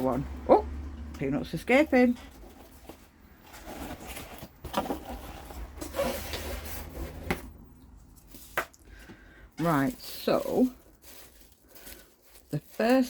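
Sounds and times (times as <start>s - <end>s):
cardboard and packing peanuts rustling: 1.5s - 13.0s.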